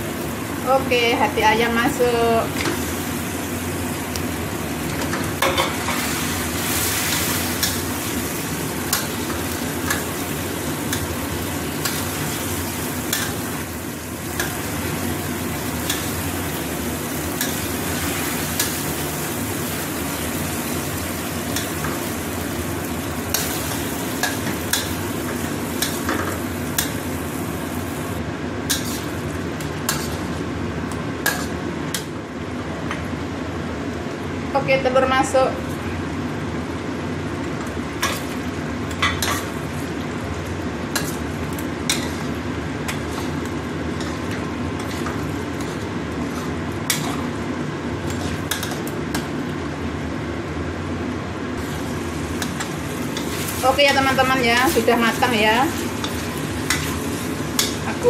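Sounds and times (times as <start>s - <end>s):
food sizzling in a wok: 0.0s - 32.3s, 34.2s - 49.9s, 51.5s - 58.0s.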